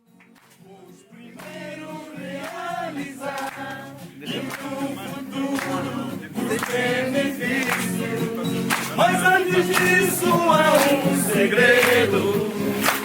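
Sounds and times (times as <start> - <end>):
group of voices singing: 0.6 - 13.0.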